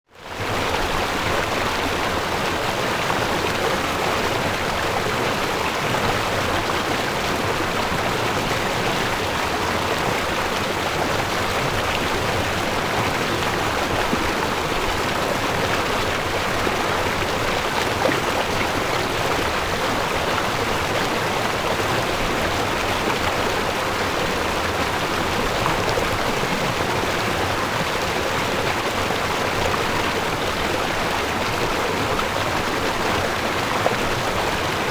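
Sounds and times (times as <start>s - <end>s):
water flowing over rocks: 0.2s - 34.9s.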